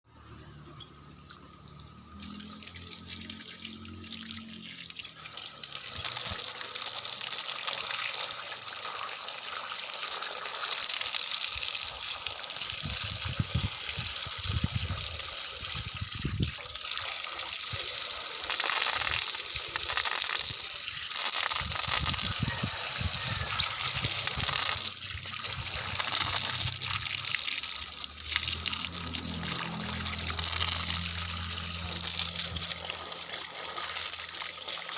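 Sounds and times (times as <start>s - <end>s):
water gushing and splashing: 1.2s - 34.9s.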